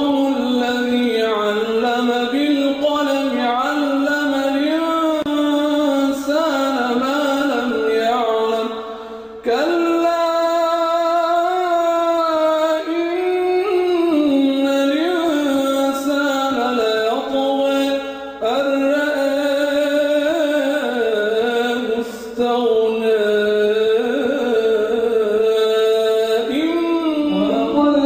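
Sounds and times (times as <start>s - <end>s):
person reciting melodically: 0.0s - 28.0s.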